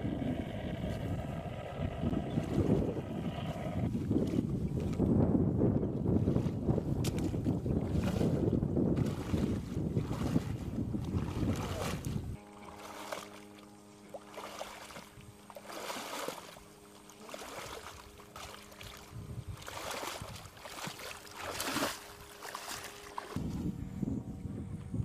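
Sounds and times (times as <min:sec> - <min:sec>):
wind buffeting microphone: 0:00.0 - 0:12.5, 0:17.2 - 0:25.0
faint steady hum: 0:00.0 - 0:25.0
boots wading through reeds and water: 0:02.2 - 0:23.7.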